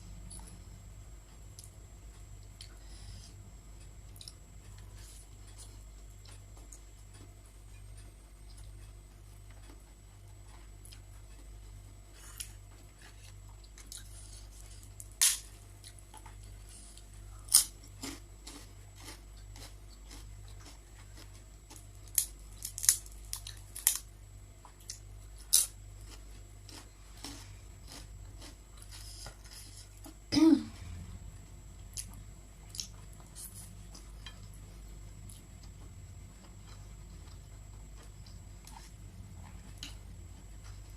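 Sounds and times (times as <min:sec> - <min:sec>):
steady low hum: 0:00.0 - 0:40.9
quiet chewing: 0:01.3 - 0:24.0, 0:24.6 - 0:30.2, 0:31.9 - 0:40.9.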